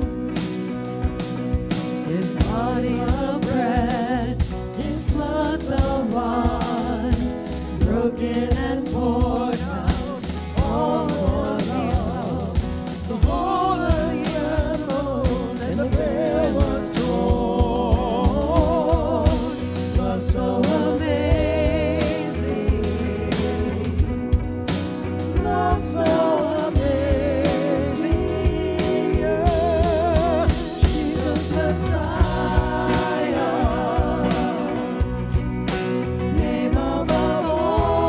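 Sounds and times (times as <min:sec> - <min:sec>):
drums: 0:00.0 - 0:38.0
guitar: 0:00.0 - 0:38.0.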